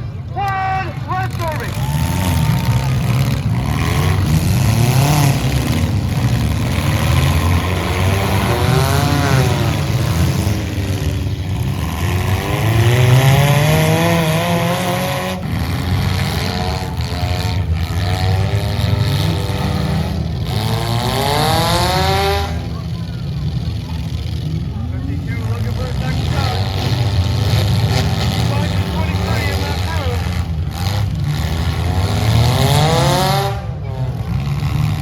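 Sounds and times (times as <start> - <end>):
arena noise: 0.0 - 35.0
car engines revving: 0.0 - 35.0.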